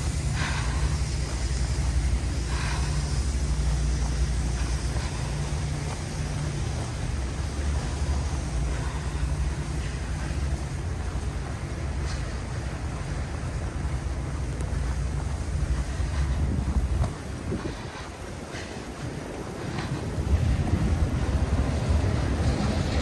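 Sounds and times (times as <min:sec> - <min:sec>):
storm wind buffeting microphone: 0:00.0 - 0:23.0.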